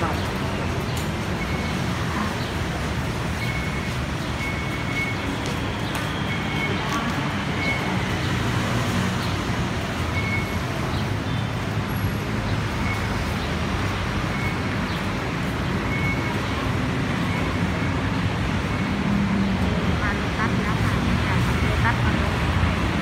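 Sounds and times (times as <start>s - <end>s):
busy road traffic: 0.0s - 23.0s.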